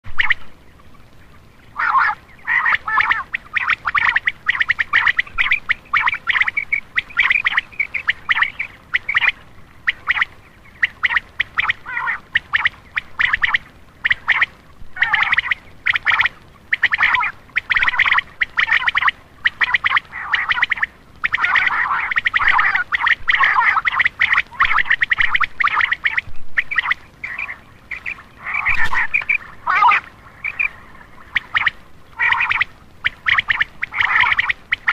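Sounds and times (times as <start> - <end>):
quail calling: 0.1 - 34.9.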